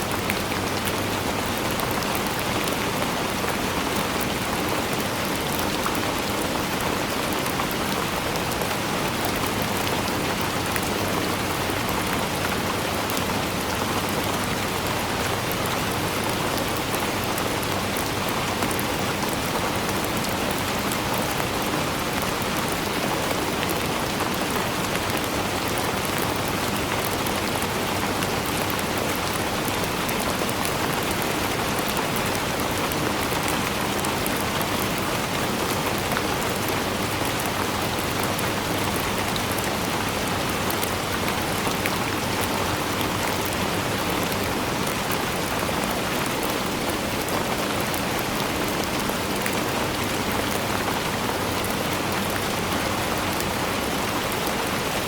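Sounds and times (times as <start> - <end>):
raindrops pattering on surfaces: 0.0 - 55.0
steady rain falling: 0.0 - 55.0.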